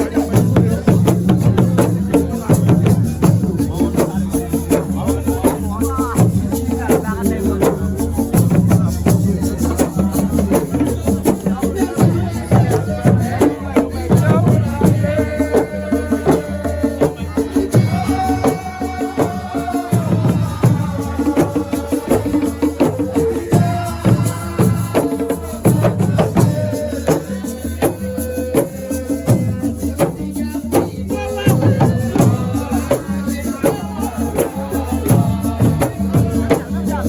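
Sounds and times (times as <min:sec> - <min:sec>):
person singing: 0:00.0 - 0:37.0
shakers and drums: 0:00.0 - 0:37.0.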